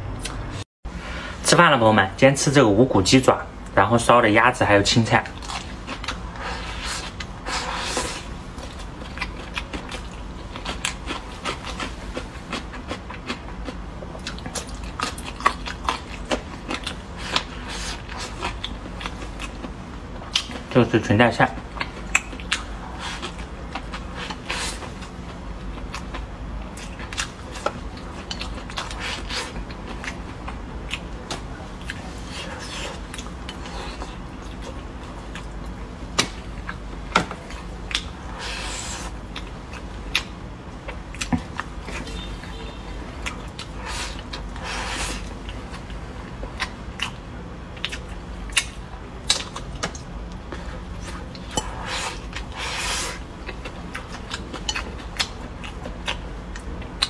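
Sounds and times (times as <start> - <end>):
wet smacking and chewing: 8.6 - 20.7, 21.6 - 42.3, 43.2 - 57.0.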